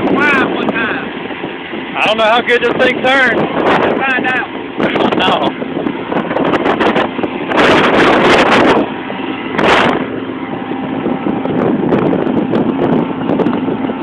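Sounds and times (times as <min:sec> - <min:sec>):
outboard motor running: 0:00.0 - 0:14.0
rushing water: 0:00.0 - 0:14.0
wind: 0:00.0 - 0:14.0.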